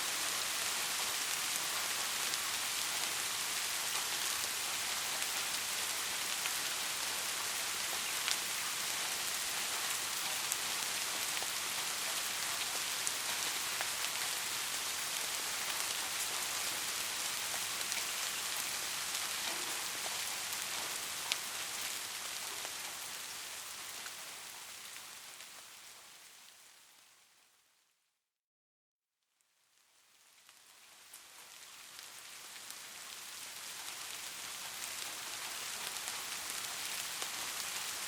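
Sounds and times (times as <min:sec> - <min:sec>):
steady rain hiss: 0:00.0 - 0:27.7, 0:29.4 - 0:38.0.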